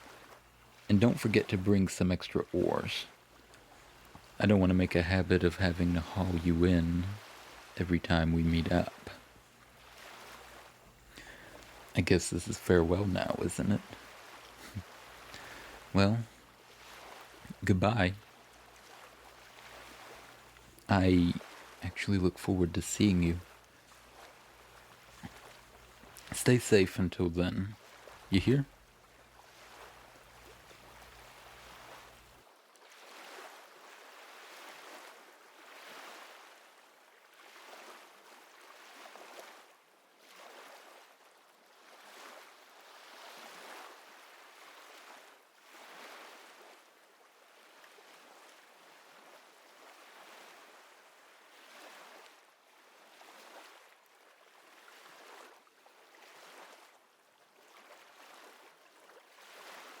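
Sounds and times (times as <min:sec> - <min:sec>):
faint ocean waves washing in: 0:00.0 - 1:00.0.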